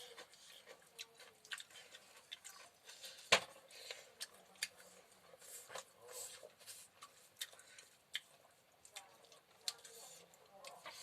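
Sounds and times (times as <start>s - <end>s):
chewing clicks and smacks: 0.0s - 5.0s, 7.0s - 11.0s.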